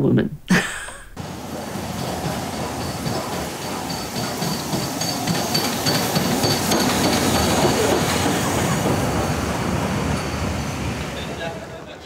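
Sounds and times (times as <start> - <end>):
train wheels rumbling: 1.1 - 12.0
high wheel squeal: 1.3 - 12.0.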